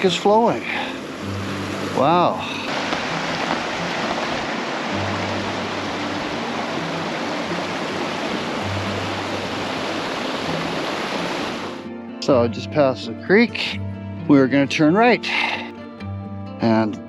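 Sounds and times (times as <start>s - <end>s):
creek water rushing: 0.0s - 13.7s
soft background music: 0.0s - 17.0s.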